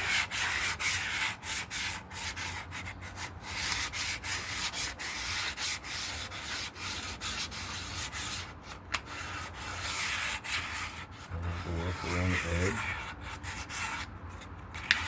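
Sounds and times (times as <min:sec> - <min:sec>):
sandpaper rubbing on wood: 0:00.0 - 0:14.1.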